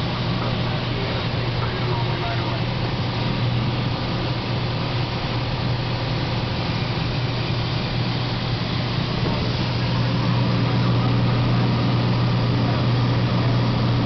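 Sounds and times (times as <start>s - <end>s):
airplane engine and propeller drone: 0.0s - 14.0s.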